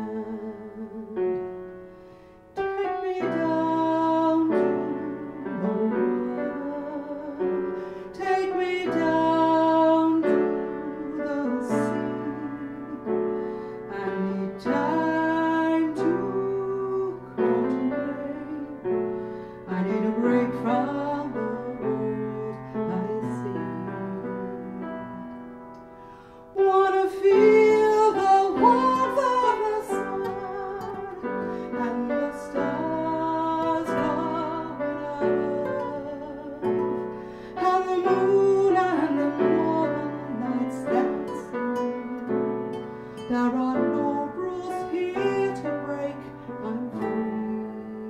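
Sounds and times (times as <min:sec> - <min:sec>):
woman singing slow song: 0:00.0 - 0:01.8, 0:02.5 - 0:48.0
piano: 0:00.0 - 0:48.0.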